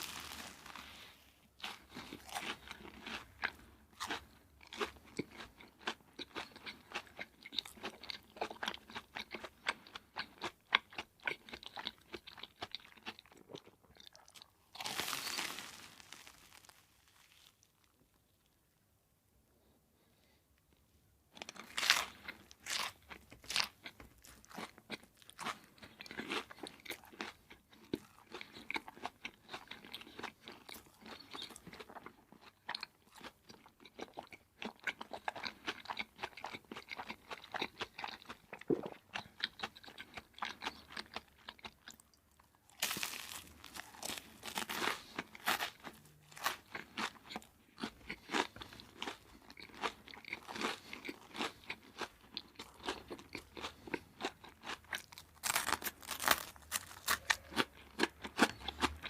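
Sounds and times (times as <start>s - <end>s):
crunching and chewing fried food: 0.0s - 18.5s, 21.3s - 59.0s.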